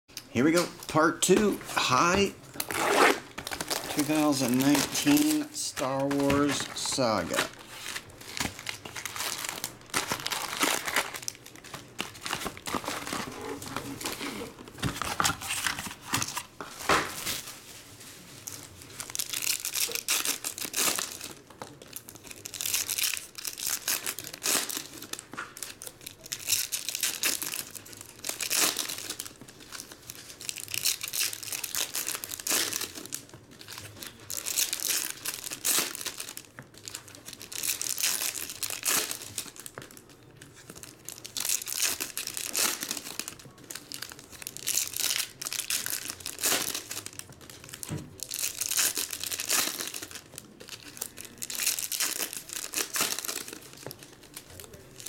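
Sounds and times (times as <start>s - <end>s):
foil wrappers crinkling and tearing: 0.5s - 55.0s.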